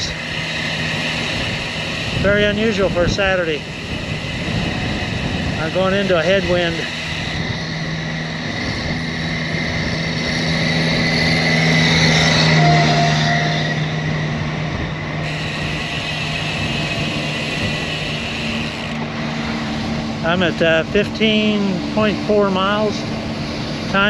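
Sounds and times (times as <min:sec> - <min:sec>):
wind buffeting microphone: 0:00.0 - 0:12.7, 0:13.8 - 0:24.0
tyre and road noise: 0:00.0 - 0:24.0.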